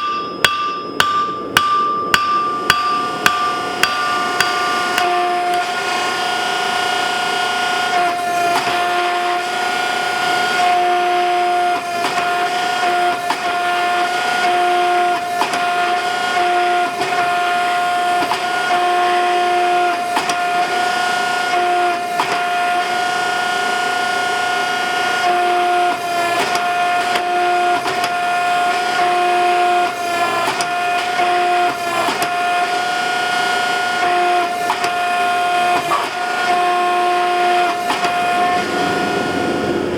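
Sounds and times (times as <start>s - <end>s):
motor and pump whine: 1.4s - 39.9s.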